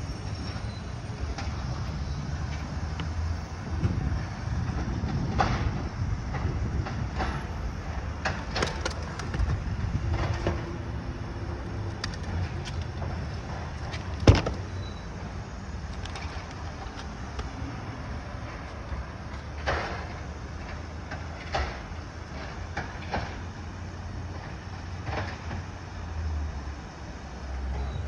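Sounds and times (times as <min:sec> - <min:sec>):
garbage truck engine rumble: 0:00.0 - 0:26.4.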